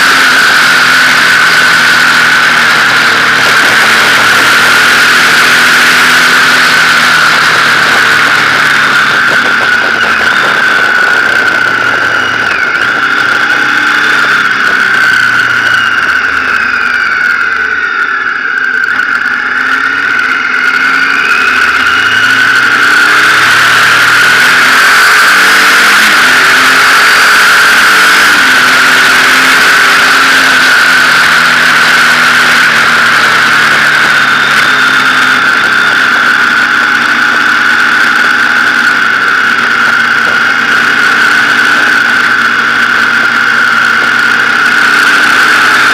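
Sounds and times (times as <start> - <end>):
motorcycle engine running: 0.0 - 45.9
steady high whine: 0.0 - 45.9.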